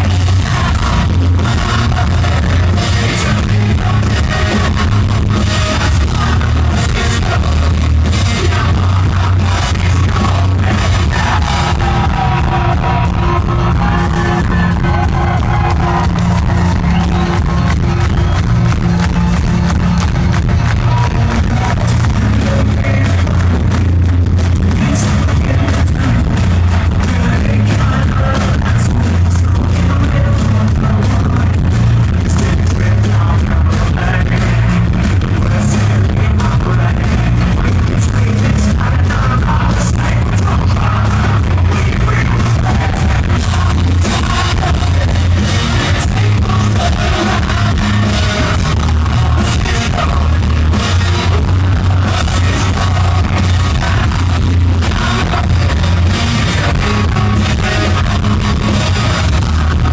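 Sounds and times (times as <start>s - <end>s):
man singing: 0.0s - 17.2s, 20.7s - 59.9s
bass guitar: 0.0s - 59.9s
distorted electric guitar: 0.0s - 59.9s
drum kit: 0.0s - 59.9s.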